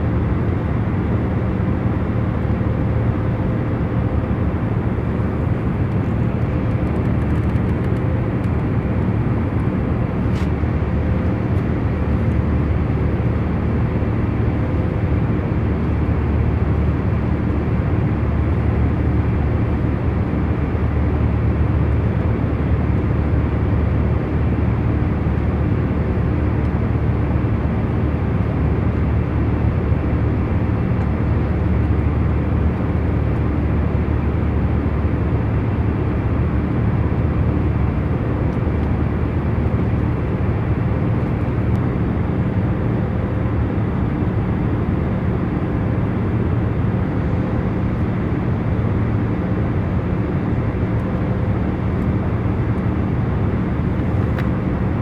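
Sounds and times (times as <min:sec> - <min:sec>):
airliner cabin rumble: 0:00.0 - 0:22.7, 0:23.3 - 0:55.0
faint constant hum: 0:00.0 - 0:55.0.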